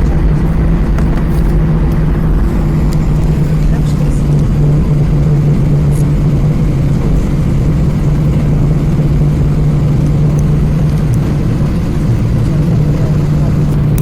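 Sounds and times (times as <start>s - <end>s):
jet engines running at low power: 0.0s - 14.0s
low hum and rumble: 0.0s - 14.0s
rush of cabin air: 0.0s - 14.0s.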